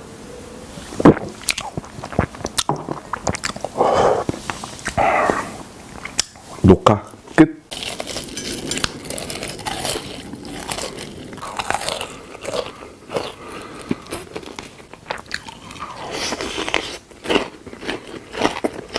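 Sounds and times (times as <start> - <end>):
crunchy biting and chewing: 1.0 - 6.5, 7.7 - 18.9.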